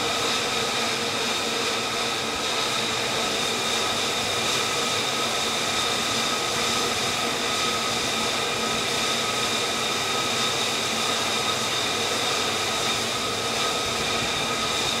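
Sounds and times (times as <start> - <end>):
jet engine idling: 0.0 - 15.0.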